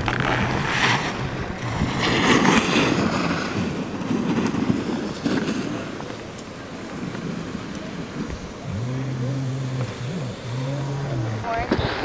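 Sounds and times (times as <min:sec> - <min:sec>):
snowboard scraping on snow: 0:00.0 - 0:12.0
wind buffeting microphone: 0:00.0 - 0:12.0.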